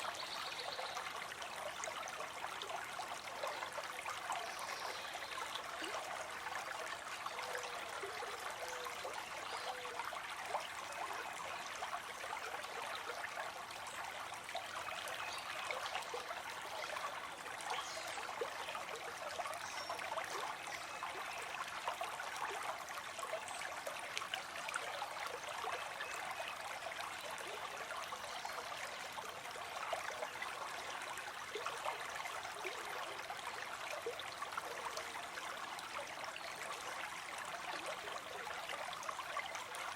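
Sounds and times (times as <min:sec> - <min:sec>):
stream burbling over stones: 0:00.0 - 0:39.9.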